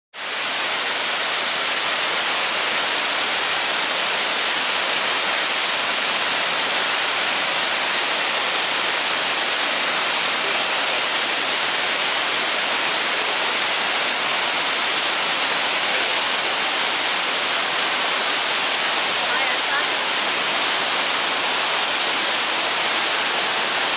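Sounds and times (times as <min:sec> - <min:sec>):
waterfall rushing: 0:00.2 - 0:23.9.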